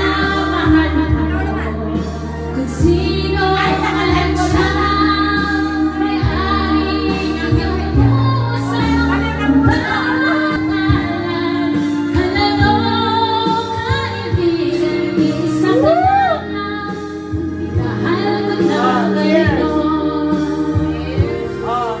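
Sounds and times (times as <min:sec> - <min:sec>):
backing track music: 0:00.0 - 0:22.0
woman singing karaoke: 0:00.0 - 0:22.0.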